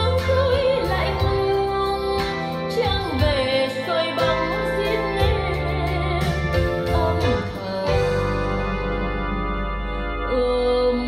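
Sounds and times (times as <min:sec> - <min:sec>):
song with singing over bass: 0:00.0 - 0:11.0.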